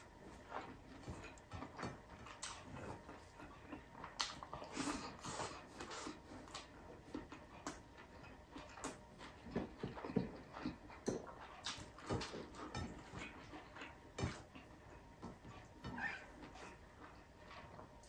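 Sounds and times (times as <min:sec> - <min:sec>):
person chewing and lip-smacking: 0:00.0 - 0:18.0.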